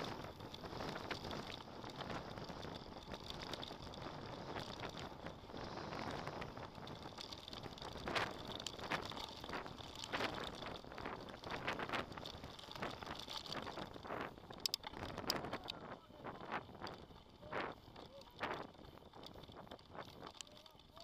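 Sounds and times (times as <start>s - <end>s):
bike tyres rushing on dirt: 0.0s - 21.0s
wind noise on microphone: 0.0s - 21.0s.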